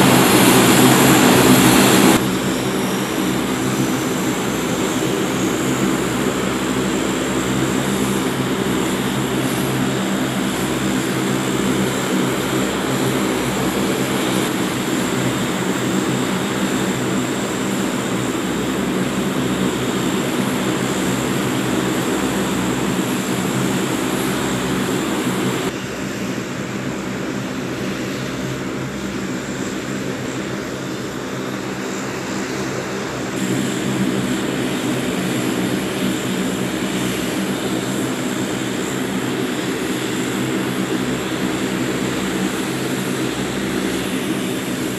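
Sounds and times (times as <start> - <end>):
high turbine whine: 0.0 - 44.9
turboprop engine drone: 0.0 - 44.9.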